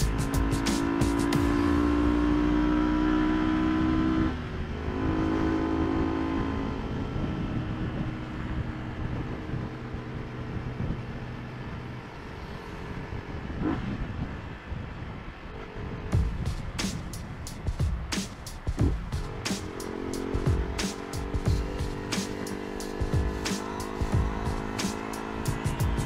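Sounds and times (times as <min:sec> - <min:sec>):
motorcycle engine running: 0:00.0 - 0:15.0, 0:15.6 - 0:26.0
wind and road noise: 0:00.0 - 0:26.0.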